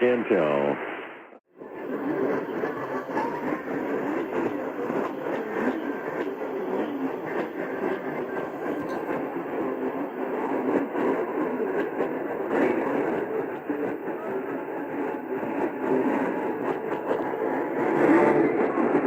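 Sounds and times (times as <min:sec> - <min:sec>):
muffled radio broadcast audio: 0:00.0 - 0:19.0
radio static hiss: 0:00.0 - 0:19.0
faint voice: 0:01.6 - 0:19.0.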